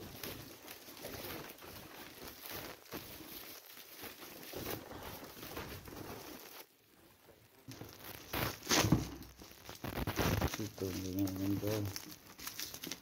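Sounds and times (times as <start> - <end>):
plastic wrap and tape crinkling: 0.0 - 13.0.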